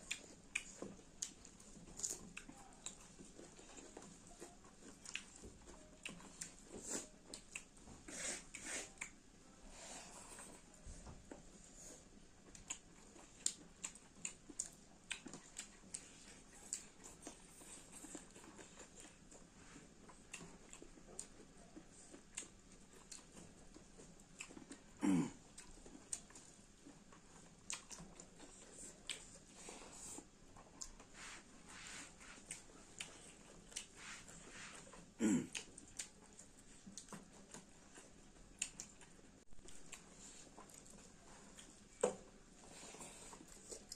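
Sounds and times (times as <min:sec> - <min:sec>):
chewing and crunching: 0:00.0 - 0:09.2, 0:09.9 - 0:43.9.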